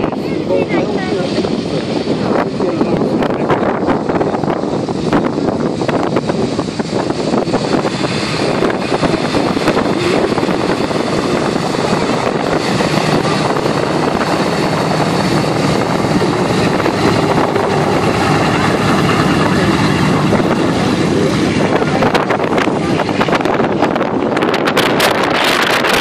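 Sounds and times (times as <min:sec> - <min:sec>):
propeller plane taxiing: 0:00.0 - 0:26.0
wind buffeting microphone: 0:00.0 - 0:26.0.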